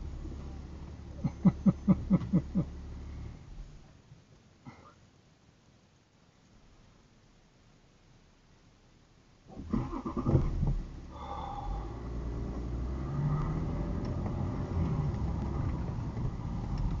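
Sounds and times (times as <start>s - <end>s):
car engine and road noise: 0.0s - 4.6s, 5.3s - 17.0s.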